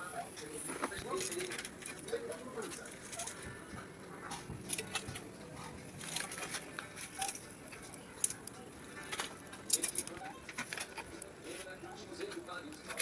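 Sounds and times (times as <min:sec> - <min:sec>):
cooking fire crackling: 0:00.0 - 0:13.0.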